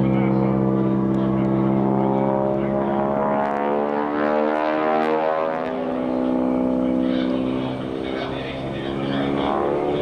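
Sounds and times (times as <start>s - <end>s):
propeller airplane engine droning: 0.0s - 10.0s.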